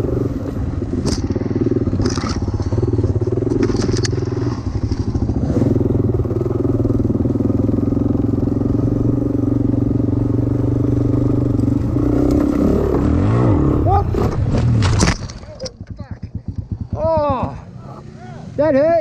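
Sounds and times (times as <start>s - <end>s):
dirtbike engine running: 0.0s - 19.0s.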